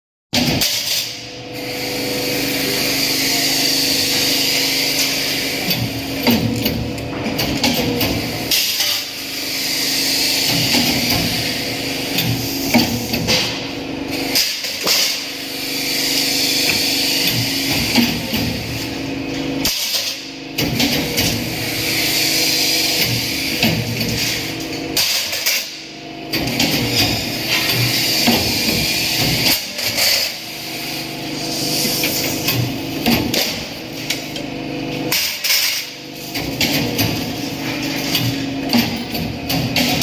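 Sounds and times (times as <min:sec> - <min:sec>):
workshop machinery humming: 0:00.4 - 0:40.0.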